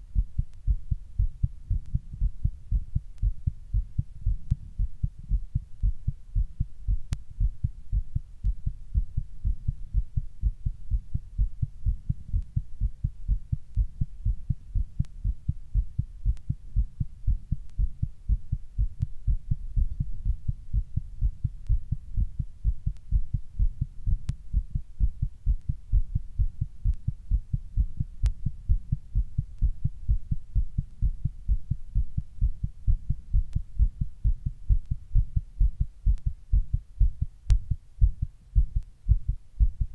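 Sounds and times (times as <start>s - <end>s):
fast heartbeat thuds: 0.2s - 39.9s.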